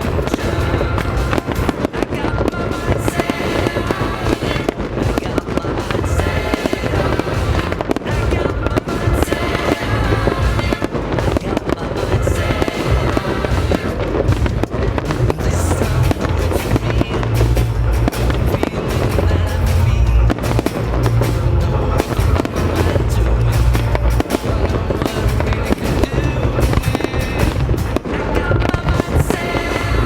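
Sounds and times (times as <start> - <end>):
fireworks popping and banging: 0.0 - 30.0
loud music: 0.0 - 30.0.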